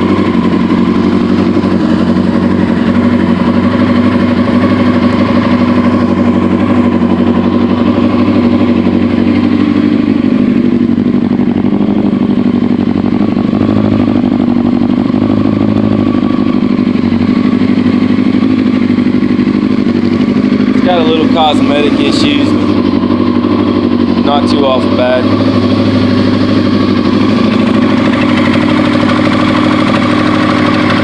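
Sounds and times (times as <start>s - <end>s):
engine knocking: 0.0s - 31.0s
motorcycle engine idling: 0.0s - 31.0s.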